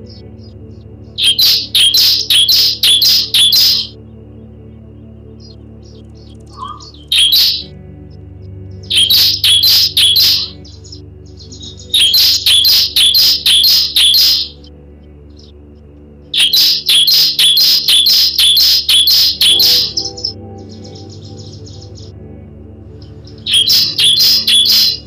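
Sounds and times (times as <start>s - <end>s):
bird singing sharp repeated notes: 0.0s - 4.0s, 5.3s - 7.8s, 8.7s - 14.7s, 16.3s - 22.3s, 23.0s - 25.0s.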